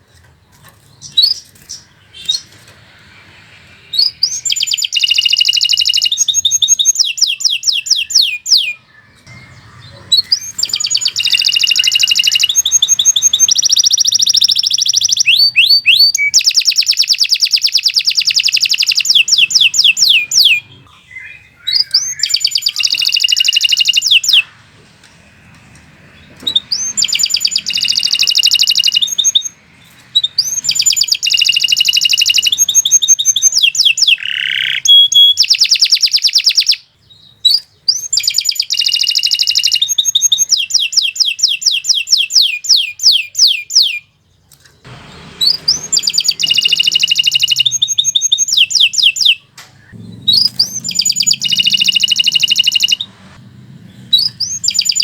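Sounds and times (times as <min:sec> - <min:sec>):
canary singing trills: 0:00.0 - 0:24.7, 0:25.8 - 0:55.0.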